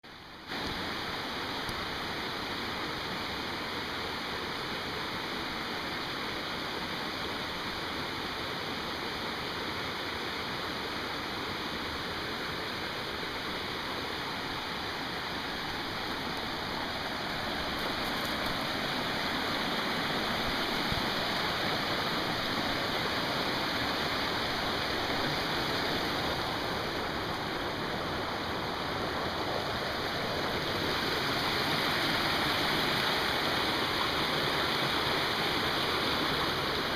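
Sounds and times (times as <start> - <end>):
flowing water rushing: 0.1 - 36.9.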